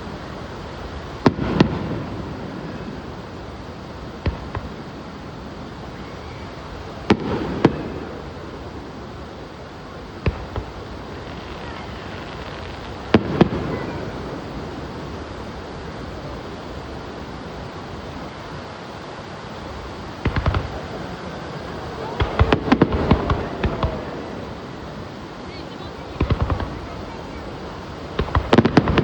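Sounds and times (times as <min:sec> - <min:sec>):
fireworks bangs: 0:00.0 - 0:29.0
fireworks crackling bursts: 0:00.0 - 0:29.0
steady background hiss: 0:00.0 - 0:29.0.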